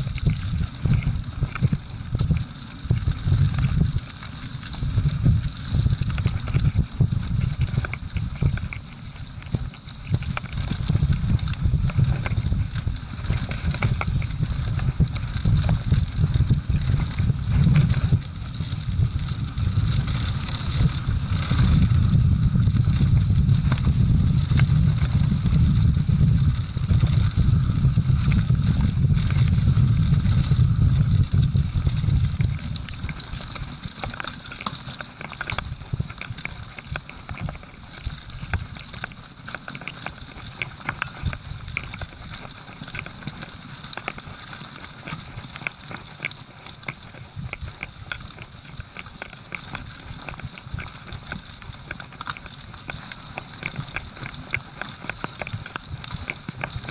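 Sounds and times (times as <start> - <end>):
bike rattling over rough ground: 0.0 - 56.9
sharp clicks from bike: 0.0 - 56.9
tyres crackling on dry leaves: 0.0 - 56.9
wind rumbling on microphone: 0.0 - 56.9.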